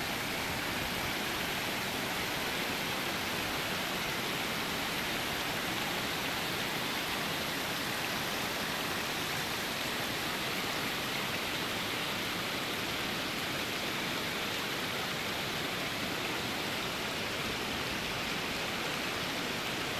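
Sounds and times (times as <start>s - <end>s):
stream rushing over rocks: 0.0s - 19.9s.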